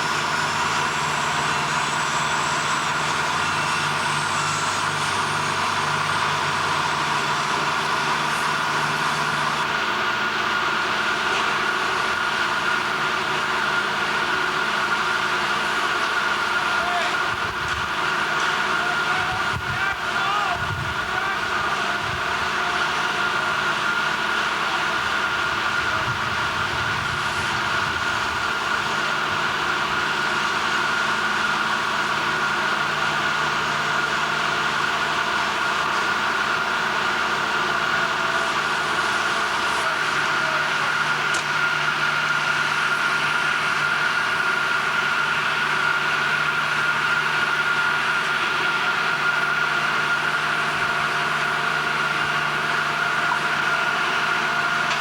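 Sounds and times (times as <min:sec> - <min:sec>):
industrial machinery whine: 0:00.0 - 0:55.0.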